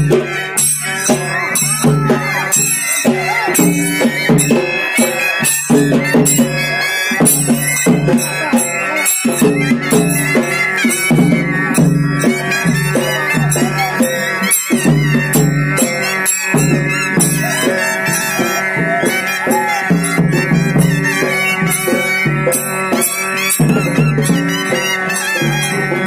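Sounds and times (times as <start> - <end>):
drums beating: 0.0 - 26.0
nasal wind instrument melody: 0.0 - 26.0.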